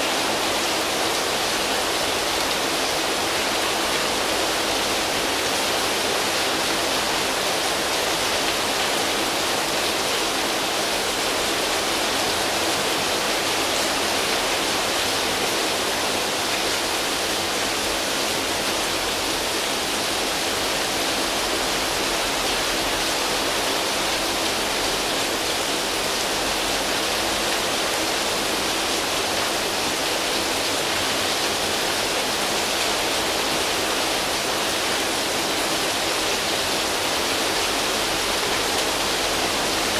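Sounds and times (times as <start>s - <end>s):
rain on leaves and tin roof: 0.0s - 39.9s.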